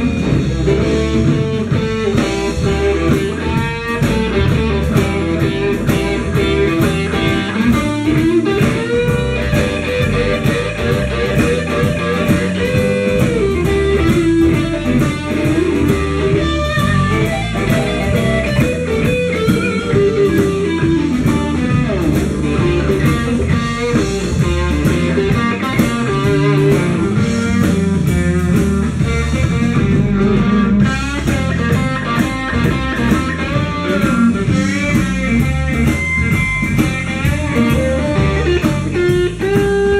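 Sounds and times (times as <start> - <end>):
blues band playing: 0.0 - 39.9
electric guitar lead: 0.0 - 39.9.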